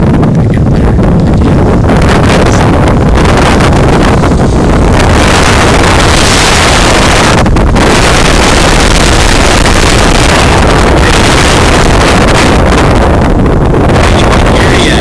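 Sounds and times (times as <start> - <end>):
storm wind through trees: 0.0 - 15.0
wind buffeting microphone: 0.0 - 15.0.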